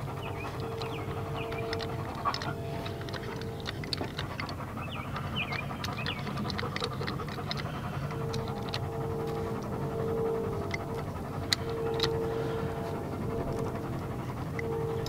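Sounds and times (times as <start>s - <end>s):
crimping tool clicking: 0.0s - 15.0s
dog panting: 0.0s - 15.0s.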